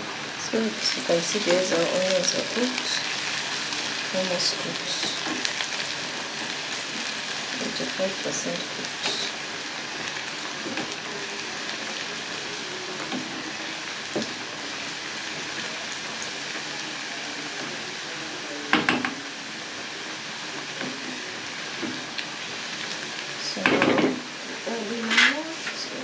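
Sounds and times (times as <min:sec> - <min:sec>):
onions sizzling in a pan: 0:00.0 - 0:26.0.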